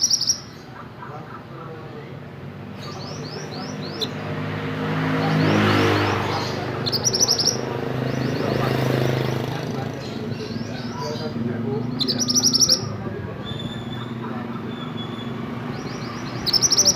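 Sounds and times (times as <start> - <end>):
motor vehicle passing: 0.0 - 16.9.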